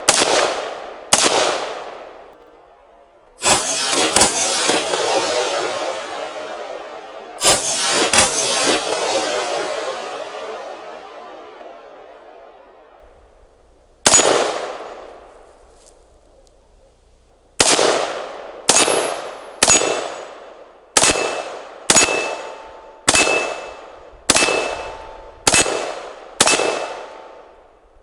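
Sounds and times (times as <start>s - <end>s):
rifle shots with echo: 0.0s - 16.8s, 17.5s - 28.0s.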